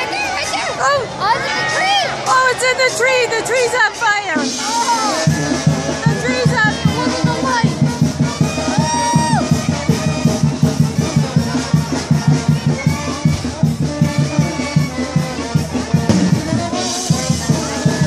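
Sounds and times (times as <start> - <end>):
latin band music with brass: 0.0 - 18.0
quick steady percussion beat: 2.4 - 18.0.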